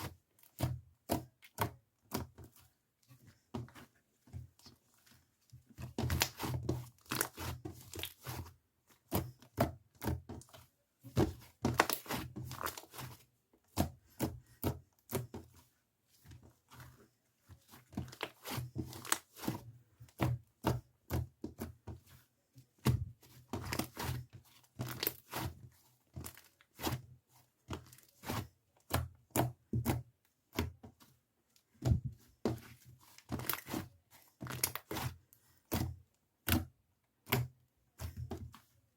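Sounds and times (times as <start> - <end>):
crackling and rustling handling noises: 2.2 - 29.0, 30.2 - 35.8.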